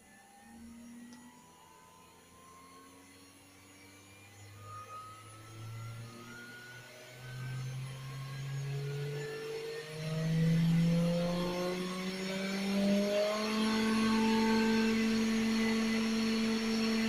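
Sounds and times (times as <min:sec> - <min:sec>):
spindle motor whine: 0:00.0 - 0:17.0.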